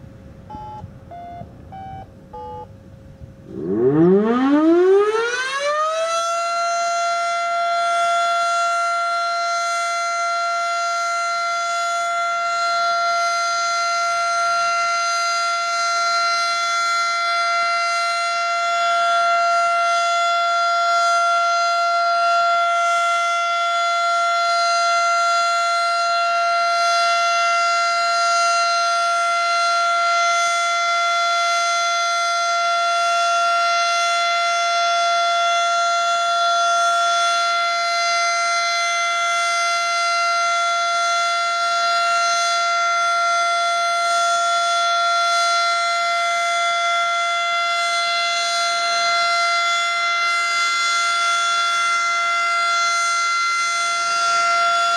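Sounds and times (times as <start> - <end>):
civil defense siren winding up: 0.0 - 54.9.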